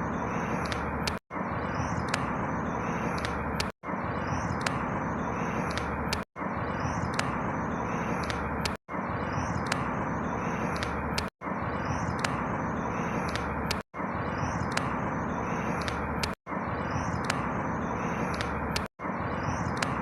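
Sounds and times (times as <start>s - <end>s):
high bird chirps: 0.0s - 20.0s.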